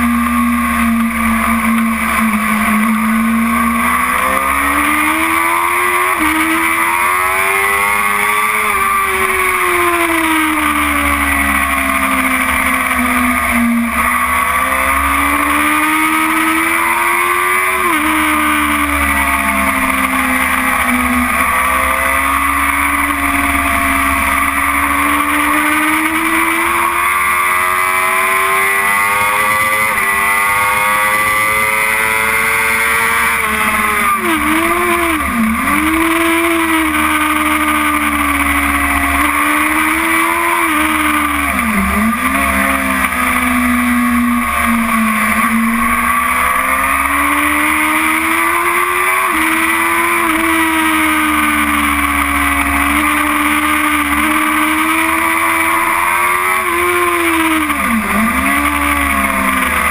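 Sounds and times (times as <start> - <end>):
motorcycle engine at race pace: 0.0 - 59.9.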